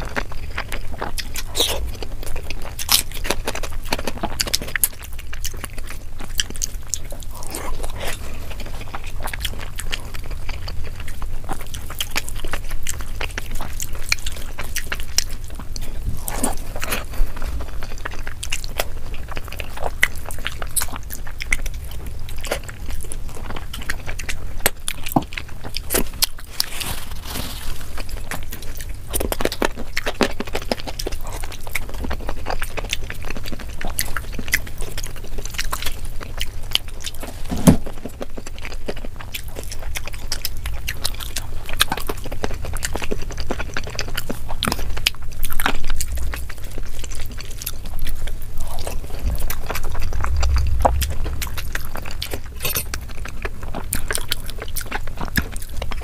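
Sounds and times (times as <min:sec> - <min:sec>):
wet chewing and mouth smacks: 0:00.0 - 0:56.0.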